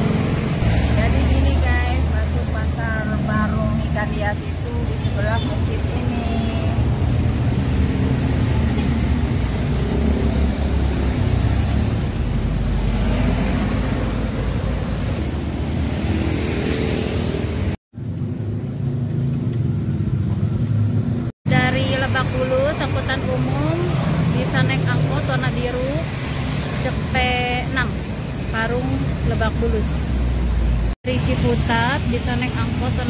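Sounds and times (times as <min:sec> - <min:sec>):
cars and motorcycles passing: 0:00.0 - 0:33.0.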